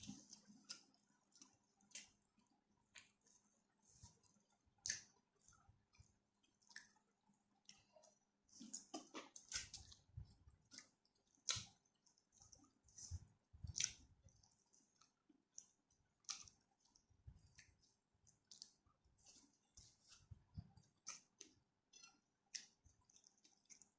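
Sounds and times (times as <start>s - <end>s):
person chewing food: 0.0s - 23.9s.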